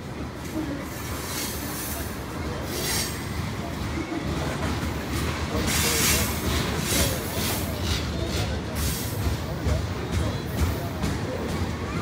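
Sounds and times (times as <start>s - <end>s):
train wheels rumbling and clicking: 0.0s - 12.0s.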